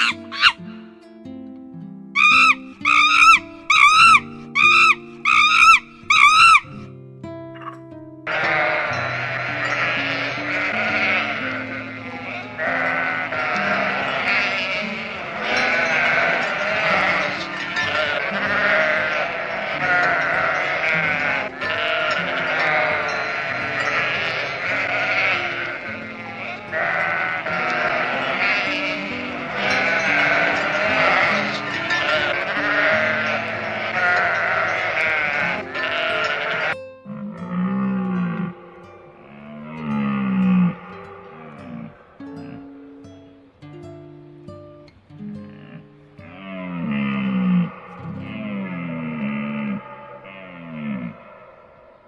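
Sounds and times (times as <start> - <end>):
livestock bleating: 0.0 - 0.7, 2.2 - 6.8, 8.3 - 36.8, 37.5 - 42.6, 45.6 - 51.6.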